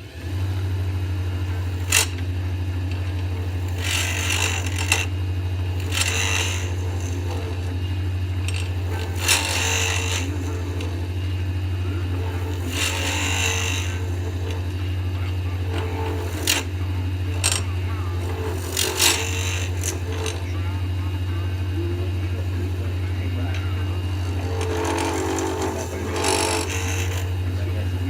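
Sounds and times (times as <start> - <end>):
lathe humming: 0.0 - 28.0
turning tool scraping acrylic: 1.4 - 2.3, 2.9 - 28.0.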